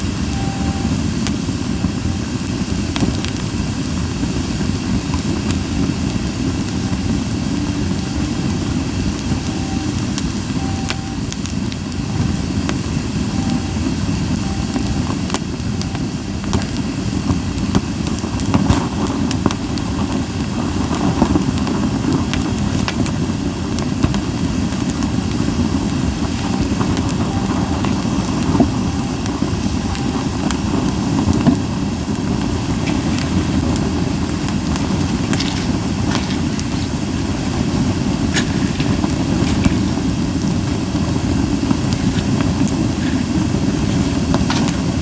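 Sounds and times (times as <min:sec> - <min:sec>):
low fire rumble: 0:00.0 - 0:45.0
wood fire crackling and popping: 0:00.0 - 0:45.0.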